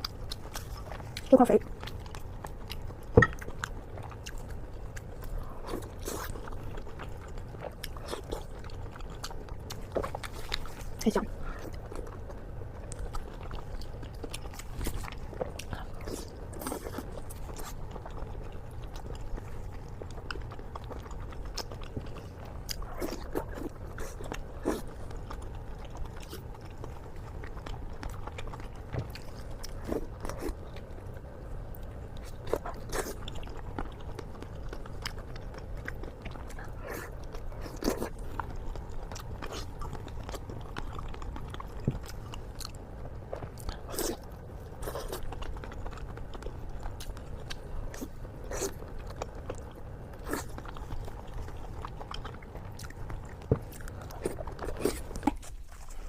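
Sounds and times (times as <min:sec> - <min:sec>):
wet chewing and biting: 0:00.0 - 0:56.0.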